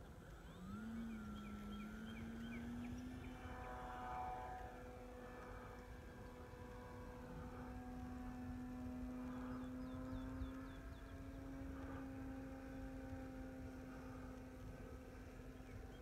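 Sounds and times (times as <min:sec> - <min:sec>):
distant model airplane motor droning: 0:00.0 - 0:16.0.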